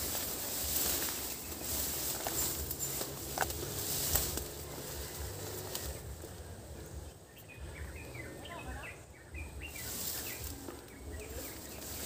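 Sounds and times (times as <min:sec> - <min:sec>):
bird chirping: 0:00.0 - 0:12.0
low steady rumble: 0:00.0 - 0:12.0.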